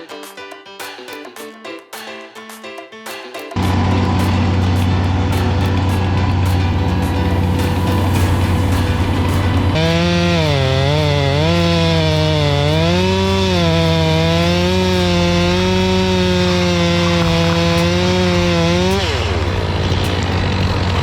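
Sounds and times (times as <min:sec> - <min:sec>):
chainsaw cutting wood: 0:03.6 - 0:21.0.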